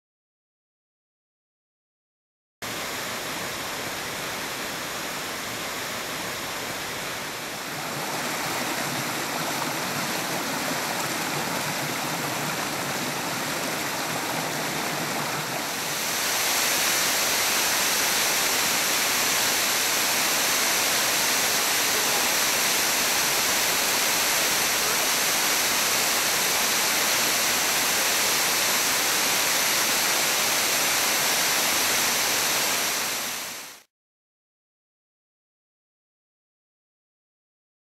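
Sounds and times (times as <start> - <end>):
waterfall rushing over rocks: 2.7 - 33.9.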